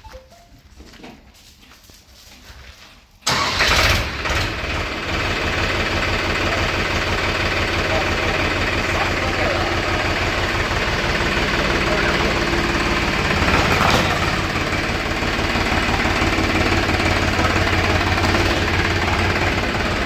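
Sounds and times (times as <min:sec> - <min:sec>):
tractor diesel engine knocking: 0:03.3 - 0:20.0.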